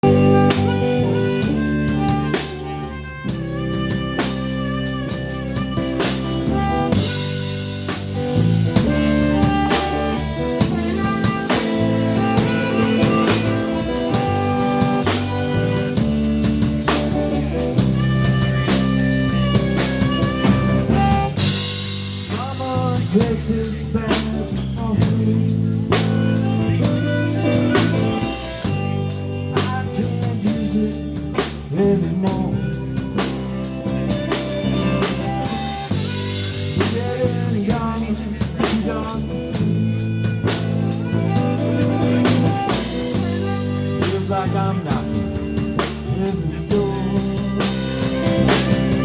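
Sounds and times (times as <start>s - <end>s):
blues guitar: 0.0s - 49.0s
drum kit beat: 0.0s - 49.0s.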